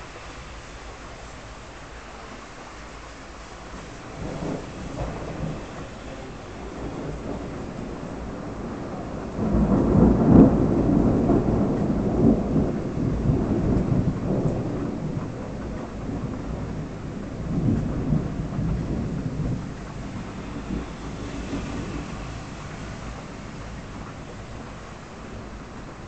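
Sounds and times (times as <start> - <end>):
thunder rumbling: 0.0 - 26.0.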